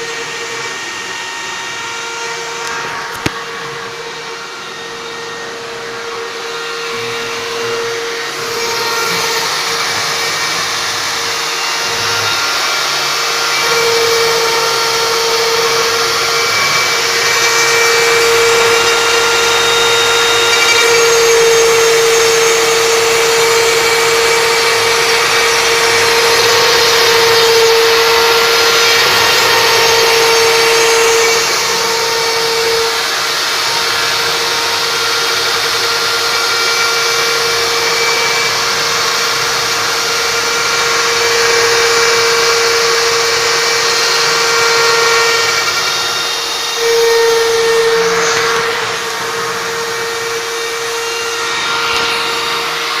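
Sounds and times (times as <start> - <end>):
router spindle whine: 0.0 - 53.0
wood cutting noise: 0.0 - 53.0.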